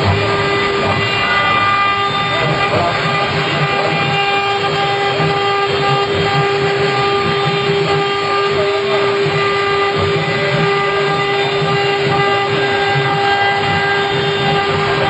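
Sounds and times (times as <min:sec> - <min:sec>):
woodworking machine whining: 0:00.0 - 0:15.0.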